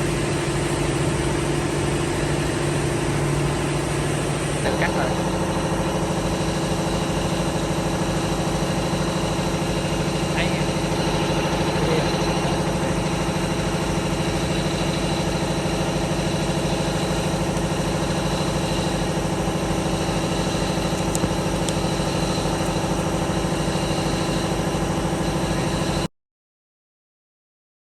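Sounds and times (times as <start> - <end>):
cutting saw motors humming: 0.0 - 26.1.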